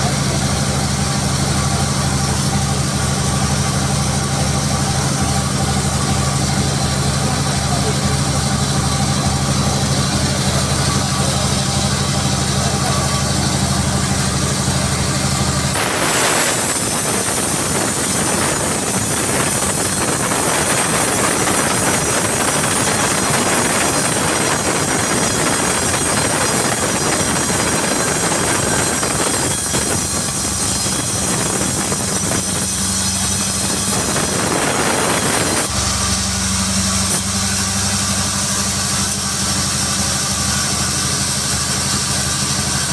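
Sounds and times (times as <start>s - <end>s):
saw cutting through log: 0.0s - 42.9s
sawmill engine idling: 0.0s - 42.9s.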